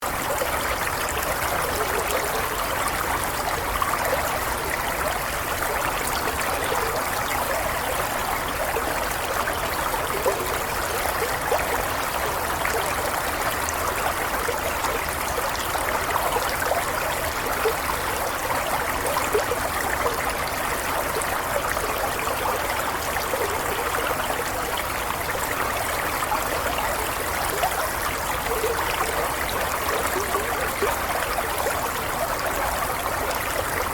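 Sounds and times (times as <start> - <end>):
water flowing and trickling: 0.0 - 33.9.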